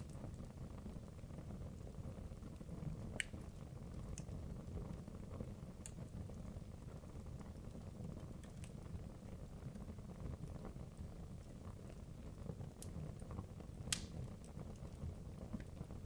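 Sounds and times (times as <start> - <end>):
crackling pops of fire: 0.0 - 16.0
logs burning in fireplace: 0.0 - 16.0.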